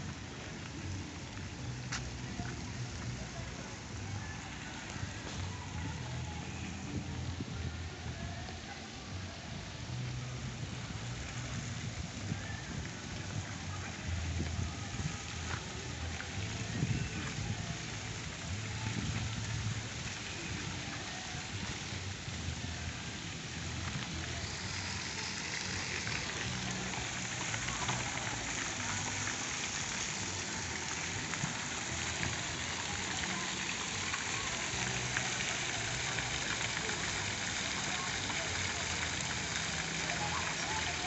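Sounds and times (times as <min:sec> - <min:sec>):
fountain water splashing: 0:00.0 - 0:41.0.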